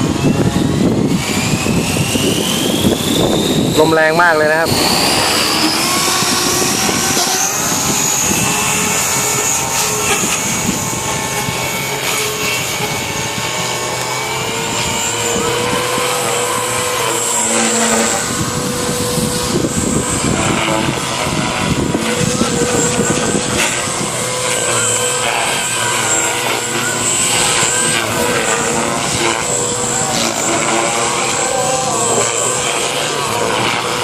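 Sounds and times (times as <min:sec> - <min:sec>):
model helicopter motor whine: 0:00.0 - 0:34.0
wind buffeting microphone: 0:00.0 - 0:34.0.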